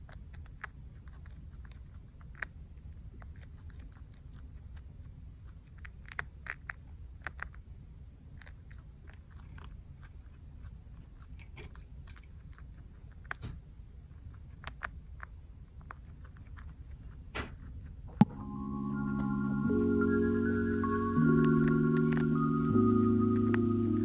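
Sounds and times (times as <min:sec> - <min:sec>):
chinchilla chewing leaves: 0:00.0 - 0:18.3, 0:20.7 - 0:24.0
low steady hum: 0:00.0 - 0:24.0.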